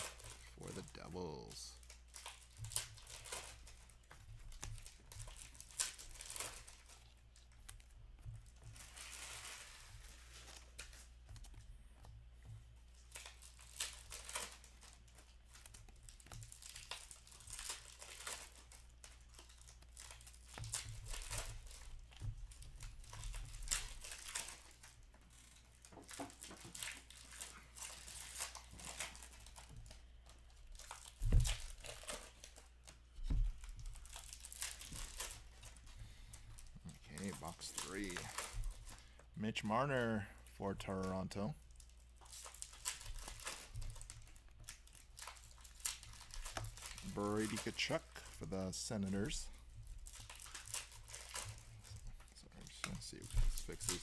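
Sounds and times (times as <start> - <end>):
card wrappers rustling and tearing: 0.0 - 54.0.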